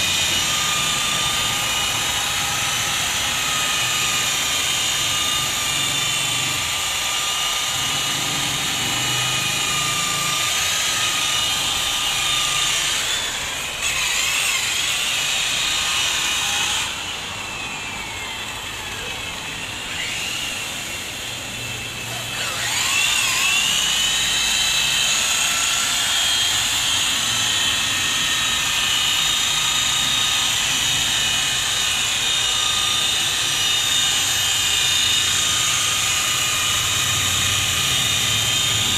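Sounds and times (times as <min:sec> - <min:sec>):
rotary polisher whining: 0:00.0 - 0:38.9.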